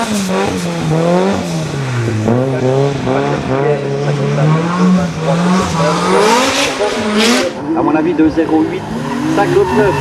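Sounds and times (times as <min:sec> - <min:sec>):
racing car engine shifting gears: 0:00.0 - 0:10.0.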